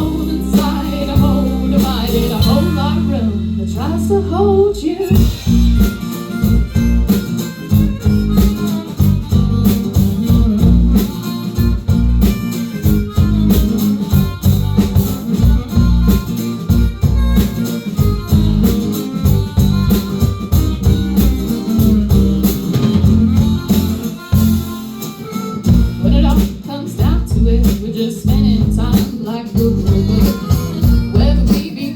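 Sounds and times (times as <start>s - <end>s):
live band playing: 0.0s - 31.9s.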